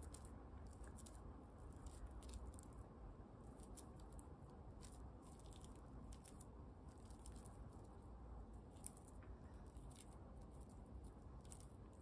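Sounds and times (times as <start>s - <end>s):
banana squishing by hand: 0.0s - 12.0s.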